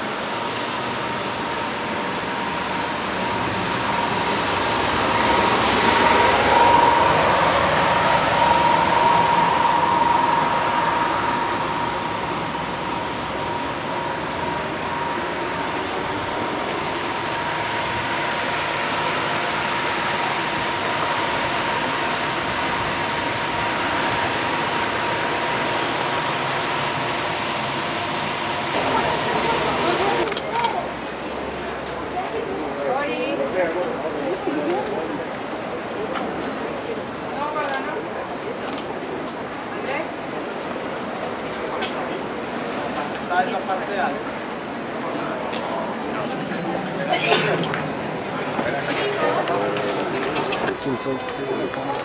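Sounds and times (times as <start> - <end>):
steady high hum: 0.0 - 51.6
traffic rushing: 0.0 - 52.0.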